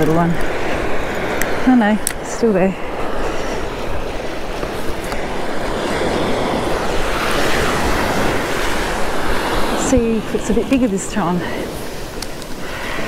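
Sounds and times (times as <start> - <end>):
small waves washing on sand: 0.0 - 13.0
wind on microphone: 0.0 - 13.0.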